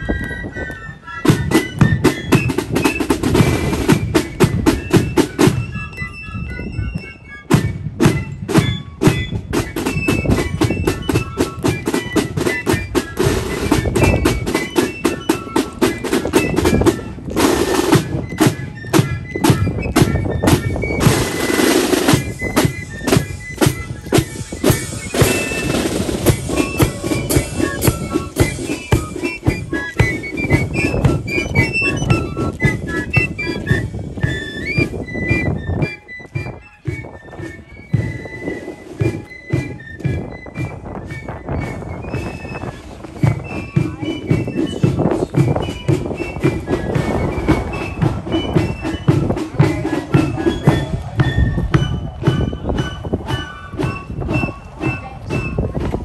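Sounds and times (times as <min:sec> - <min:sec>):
flutes piping a tune: 0:00.0 - 0:56.0
snare drums rattling: 0:01.2 - 0:05.8, 0:07.5 - 0:56.0.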